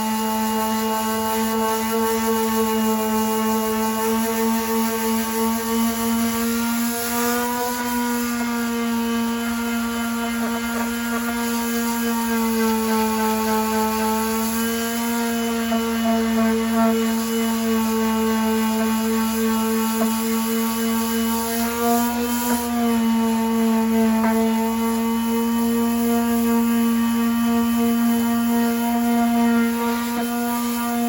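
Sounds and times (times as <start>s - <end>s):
power sander running: 0.0s - 31.0s.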